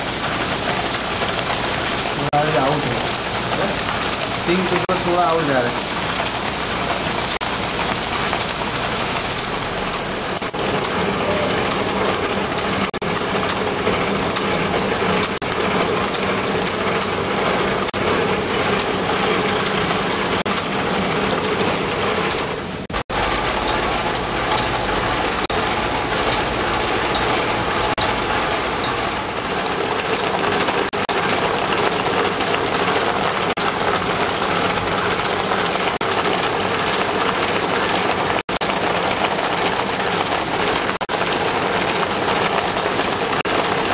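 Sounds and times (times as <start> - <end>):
printing press clatter and hiss: 0.0 - 43.9.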